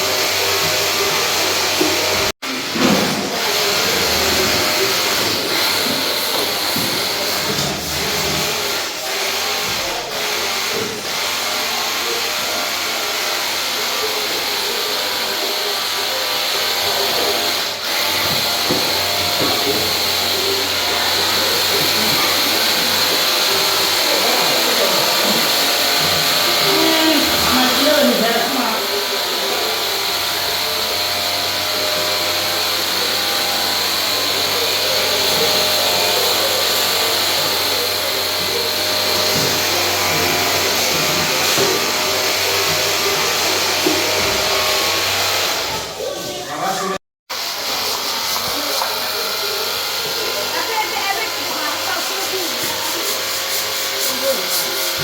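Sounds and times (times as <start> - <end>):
pressure washer motor humming: 0.0 - 46.0, 47.3 - 55.0
water jet spraying a wall: 0.0 - 46.0, 47.3 - 55.0.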